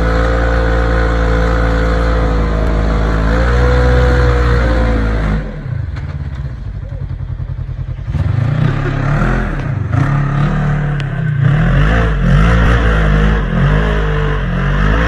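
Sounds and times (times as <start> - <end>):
off-road engine revving: 0.0 - 15.0.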